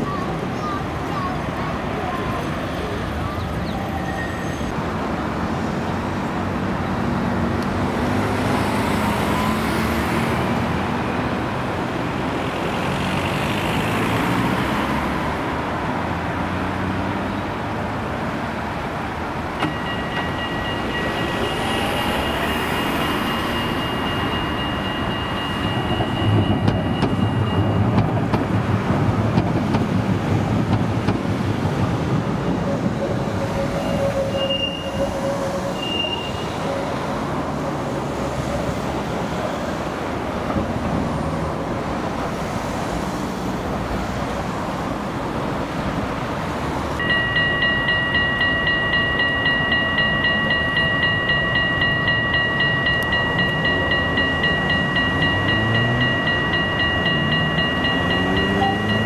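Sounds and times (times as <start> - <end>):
street traffic: 0.0 - 59.0
tram wheels rumbling on rails: 0.0 - 59.0.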